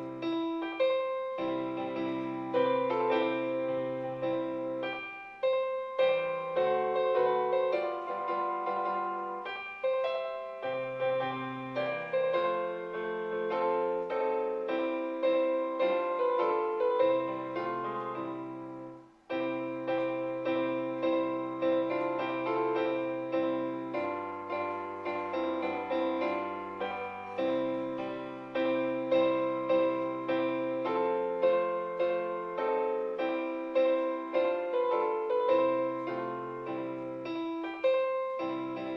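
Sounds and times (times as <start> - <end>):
slow hymn on piano: 0.0 - 38.9.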